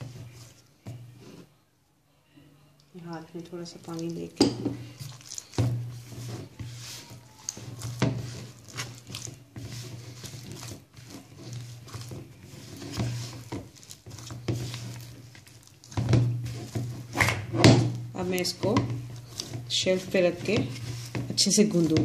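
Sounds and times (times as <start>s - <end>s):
hands squishing and slapping dough: 3.0s - 22.0s.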